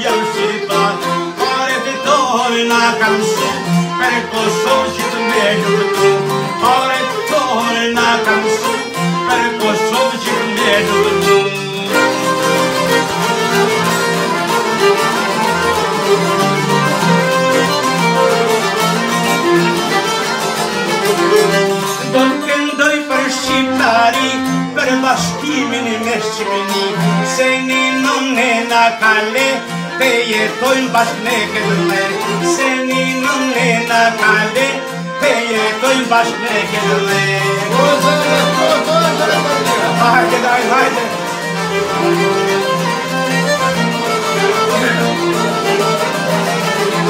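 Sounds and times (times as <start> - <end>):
accordion: 0.0 - 47.0
plucked lutes: 0.0 - 47.0
violin: 0.0 - 47.0.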